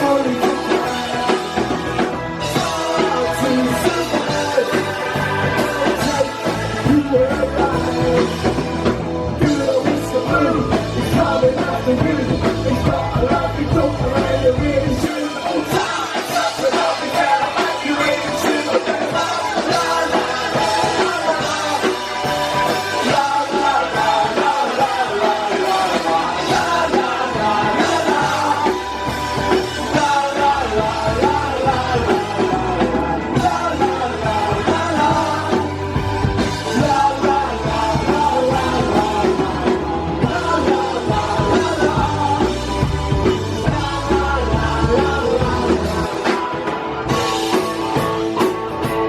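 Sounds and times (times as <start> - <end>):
person singing: 0.0 - 47.6
punk rock band playing: 0.0 - 49.0.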